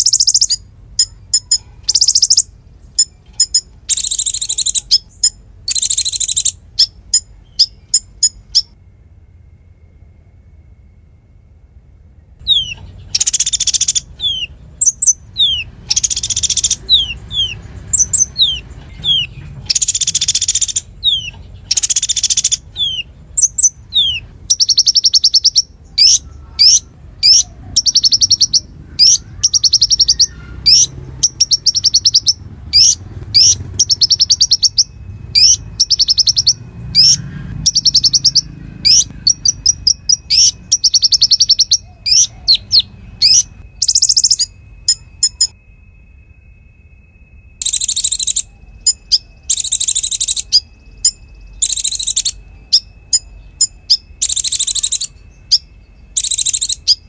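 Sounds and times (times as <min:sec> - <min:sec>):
bird singing rapid trills: 0:00.0 - 0:08.8, 0:12.2 - 0:57.0.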